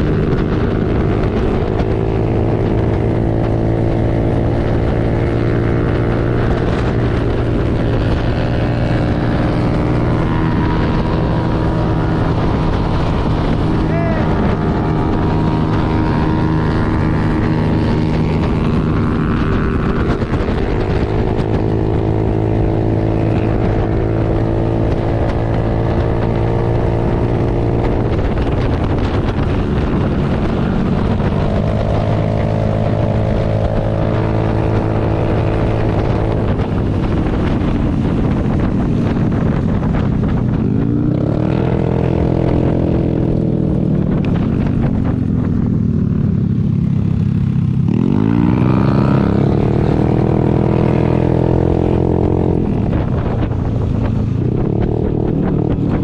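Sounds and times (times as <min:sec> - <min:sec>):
motorcycle engine running: 0:00.0 - 0:56.0
wind and road rush: 0:00.0 - 0:56.0.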